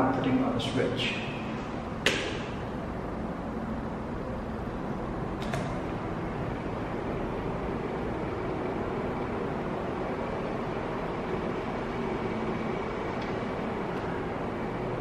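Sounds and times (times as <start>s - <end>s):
cooling fan whirring: 0.0s - 15.0s.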